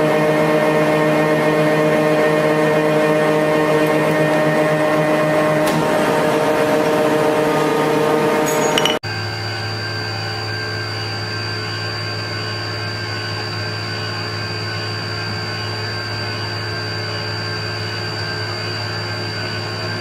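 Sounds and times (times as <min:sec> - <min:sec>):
thread rolling machine humming: 0:00.0 - 0:20.0.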